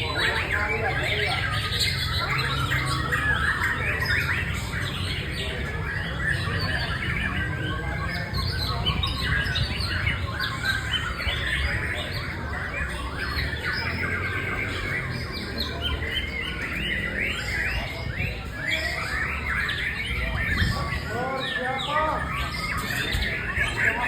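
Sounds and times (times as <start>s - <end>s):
bird singing: 0.0s - 24.0s.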